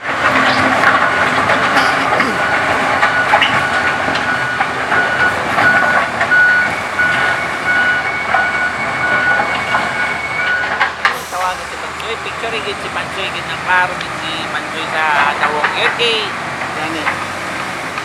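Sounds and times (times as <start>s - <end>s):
engine knocks: 0.0s - 18.0s
reversing alarm beeping: 0.0s - 18.0s
wheel loader engine running: 0.0s - 18.0s.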